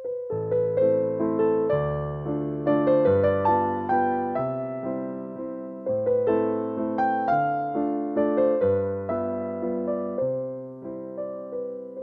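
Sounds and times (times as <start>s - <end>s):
slow piano piece: 0.0s - 12.0s.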